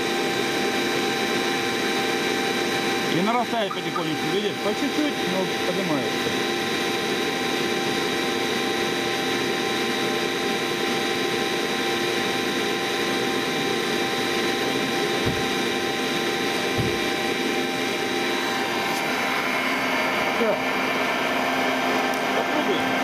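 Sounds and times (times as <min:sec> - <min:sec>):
motor-generator whine: 0:00.0 - 0:23.0.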